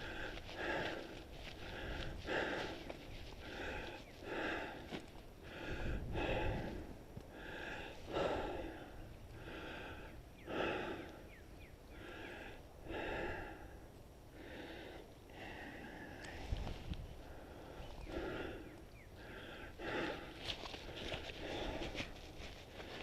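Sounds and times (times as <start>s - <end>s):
person breathing hard: 0.0s - 23.0s.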